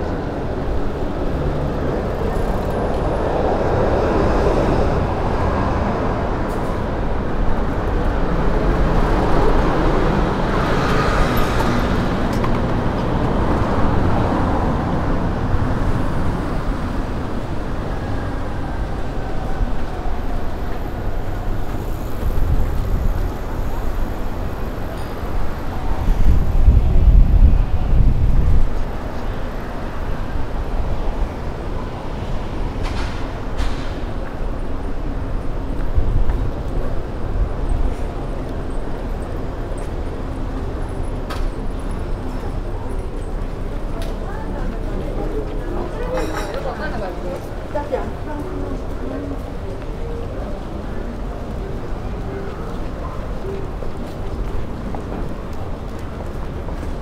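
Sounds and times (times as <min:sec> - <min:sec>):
large vehicle rumbling: 0:00.0 - 0:57.0
vehicles passing: 0:00.0 - 0:57.0.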